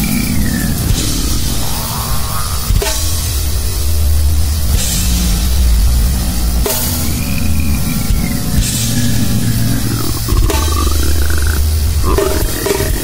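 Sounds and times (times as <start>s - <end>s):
distorted noise music with drums: 0.0s - 13.0s.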